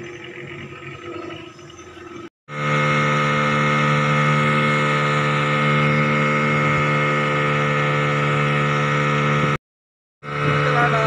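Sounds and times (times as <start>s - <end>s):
outboard motor running: 0.0s - 9.6s, 10.2s - 11.0s.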